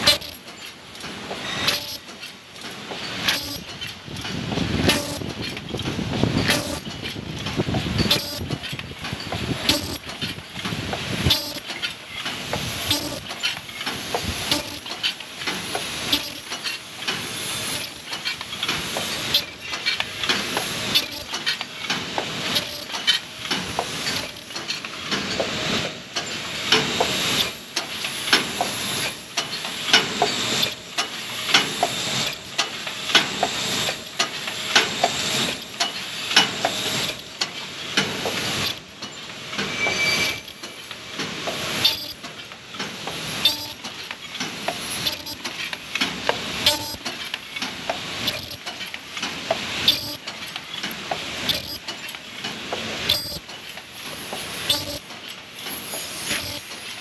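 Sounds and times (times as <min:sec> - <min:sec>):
machine clacking: 0:00.0 - 0:57.0.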